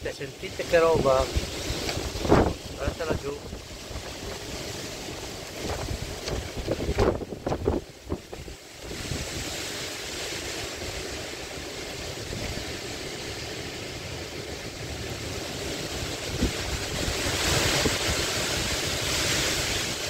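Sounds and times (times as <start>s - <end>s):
wind buffeting microphone: 0.0s - 20.0s
wind rushing through tree foliage: 0.0s - 20.0s.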